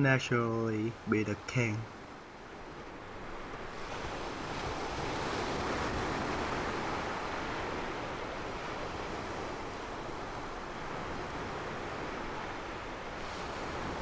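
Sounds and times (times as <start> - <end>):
ocean waves washing on shore: 0.0 - 14.0.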